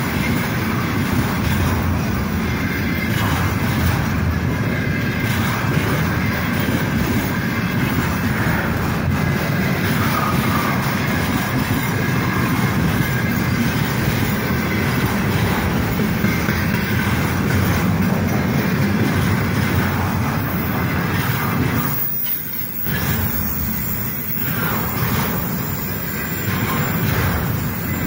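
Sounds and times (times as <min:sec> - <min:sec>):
clattering over rail joints: 0:00.0 - 0:28.0
steel wheels rumbling on rails: 0:00.0 - 0:28.0.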